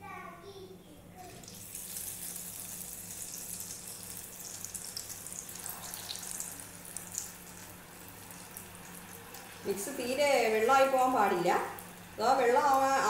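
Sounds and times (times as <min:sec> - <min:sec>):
food sizzling in hot oil: 0:01.2 - 0:13.0.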